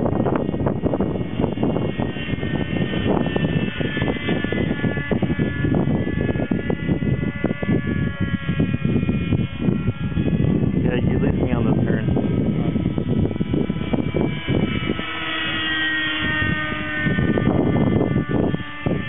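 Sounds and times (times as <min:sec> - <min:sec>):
model helicopter engine whine: 0:00.0 - 0:19.0
wind rumble on microphone: 0:00.0 - 0:19.0.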